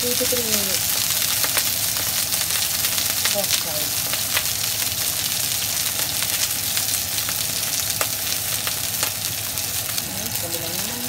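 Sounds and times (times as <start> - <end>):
oil sizzling in a wok: 0.0 - 11.0
spattering oil pops: 0.2 - 10.1.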